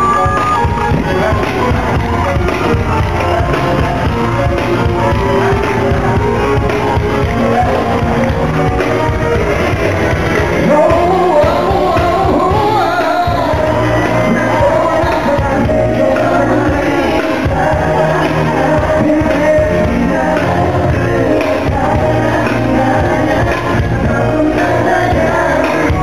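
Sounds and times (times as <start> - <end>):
man singing: 0.0 - 3.5, 5.0 - 9.8, 10.6 - 26.0
live pop music in tango style: 0.0 - 26.0.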